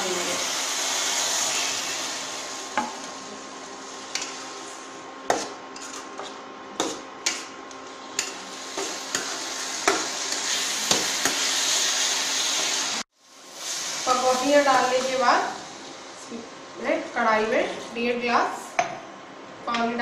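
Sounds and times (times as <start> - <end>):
gravy sizzling in a pan: 0.0 - 6.1, 6.8 - 16.8.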